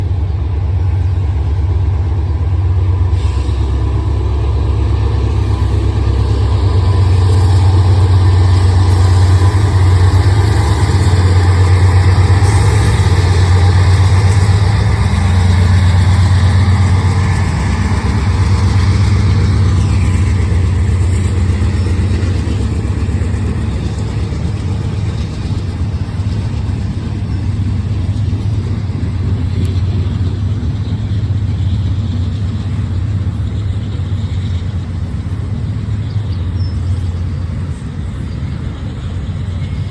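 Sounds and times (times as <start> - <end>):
deep diesel locomotive rumble: 0.0 - 39.9.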